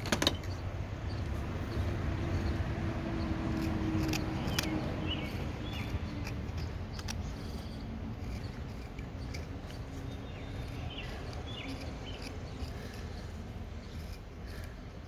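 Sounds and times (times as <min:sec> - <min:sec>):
knife whittling wood clicks: 0:00.0 - 0:15.0.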